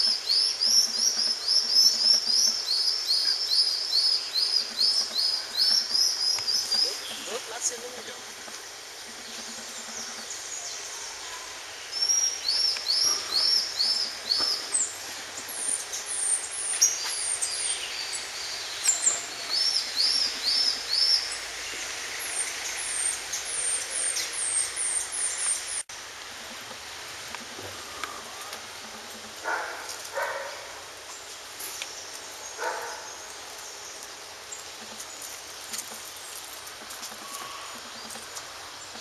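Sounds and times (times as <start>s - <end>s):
background hiss: 0.0s - 39.0s
songbirds chirping: 0.0s - 39.0s.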